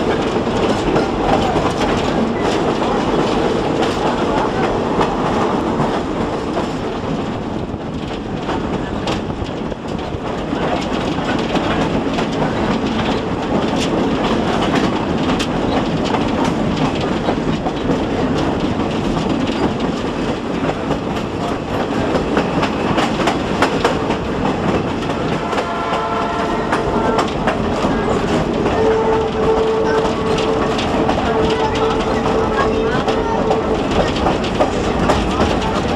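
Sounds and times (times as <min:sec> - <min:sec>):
train rumbling on track: 0:00.0 - 0:35.9
wheels clicking over rail joints: 0:00.0 - 0:35.9.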